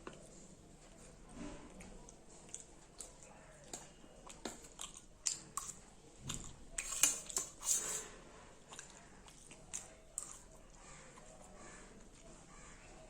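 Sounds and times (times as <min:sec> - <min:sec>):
person chewing noodles: 0:00.0 - 0:12.3.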